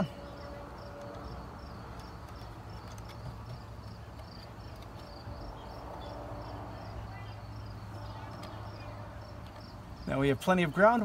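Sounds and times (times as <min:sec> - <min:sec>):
cricket chirping: 0:00.0 - 0:10.4.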